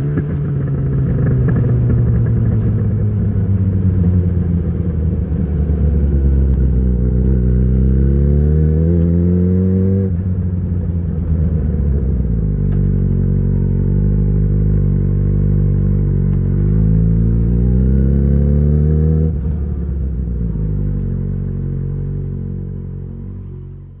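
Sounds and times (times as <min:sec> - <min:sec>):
motorcycle engine revving: 0:00.0 - 0:23.7.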